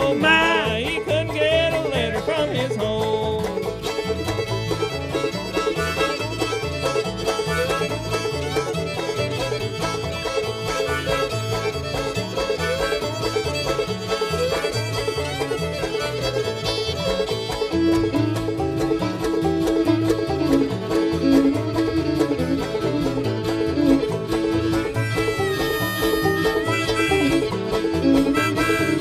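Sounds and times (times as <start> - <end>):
banjo: 0.0 - 29.0
fiddle: 0.0 - 29.0
plucked bass line: 0.0 - 29.0.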